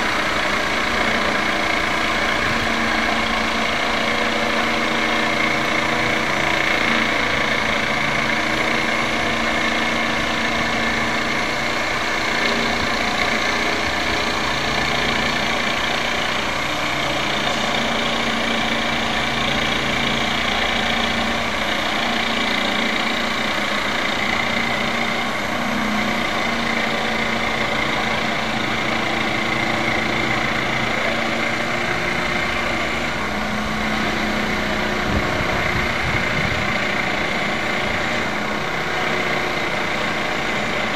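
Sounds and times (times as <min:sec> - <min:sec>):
jigsaw cutting plywood: 0:00.0 - 0:40.9.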